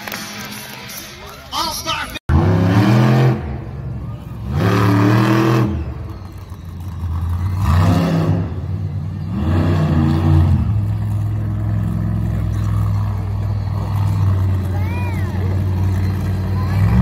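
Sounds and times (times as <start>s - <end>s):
monster truck engine revving: 2.3s - 17.0s.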